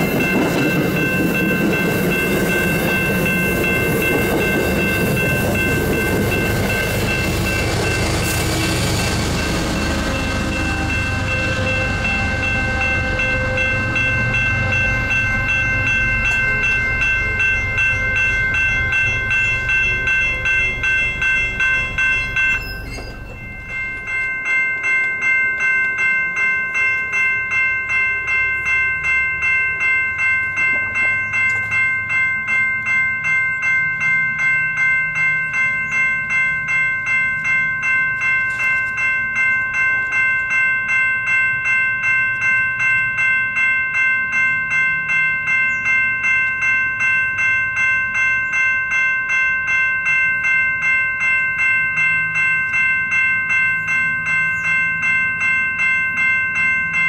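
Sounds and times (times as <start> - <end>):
crossing warning bell ringing: 0.0 - 57.0.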